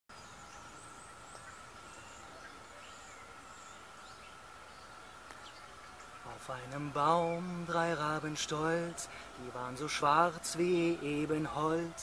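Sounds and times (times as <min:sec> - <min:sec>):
small birds chirping: 0:00.1 - 0:12.0
steady hiss: 0:00.1 - 0:12.0
thin high whine: 0:00.1 - 0:12.0.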